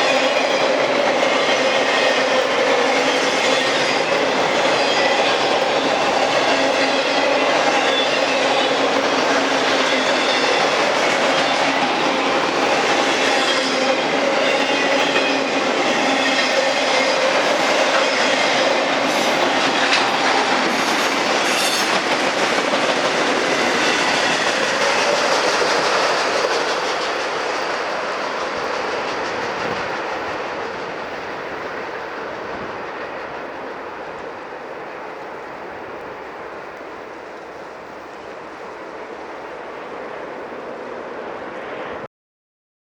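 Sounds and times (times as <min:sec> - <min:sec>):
freight train wheels clacking: 0:00.0 - 0:35.8.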